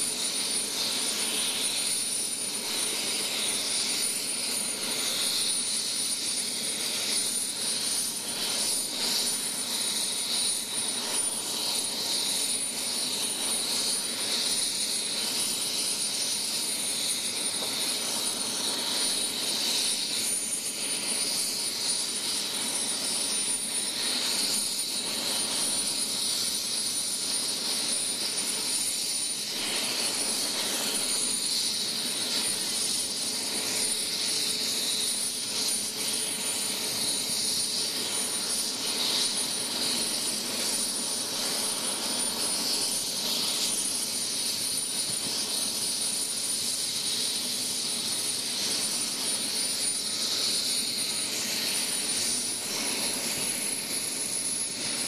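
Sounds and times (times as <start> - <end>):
helicopter turbine engine running: 0.0 - 55.0
high turbine whine: 0.0 - 55.0.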